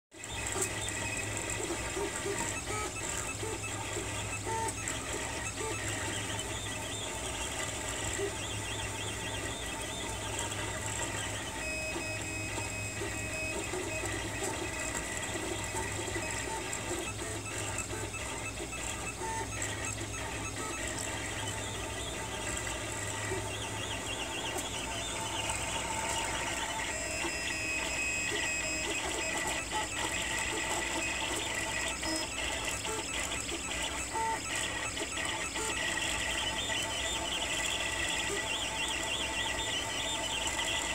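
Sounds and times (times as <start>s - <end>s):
cooling fans humming: 0.2s - 40.9s
stepper motors whirring: 0.2s - 40.9s.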